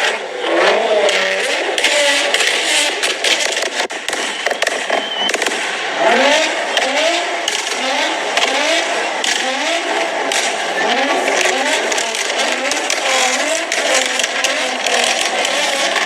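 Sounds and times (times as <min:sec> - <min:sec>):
car engines revving: 0:00.0 - 0:16.0
exhaust crackles and pops: 0:00.0 - 0:16.0.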